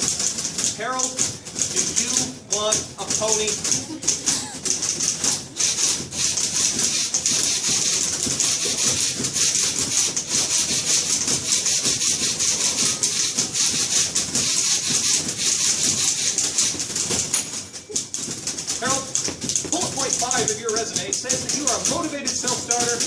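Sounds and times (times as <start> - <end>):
typewriter keys clattering: 0.0 - 23.0.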